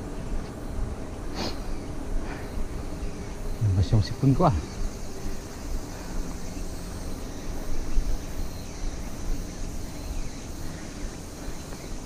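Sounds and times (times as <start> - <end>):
bicycle tyre noise on asphalt: 0.0 - 12.0.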